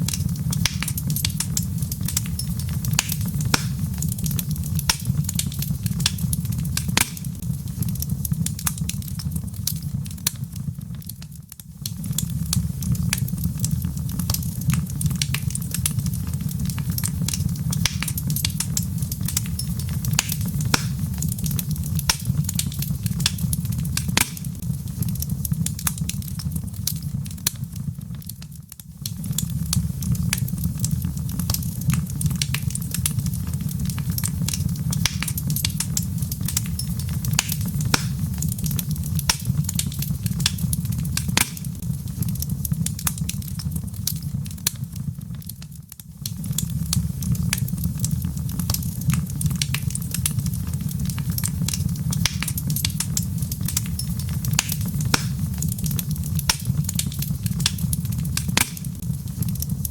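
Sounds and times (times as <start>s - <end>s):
log fire crackling and popping: 0.0s - 59.9s
low rumble of flames: 0.0s - 59.9s.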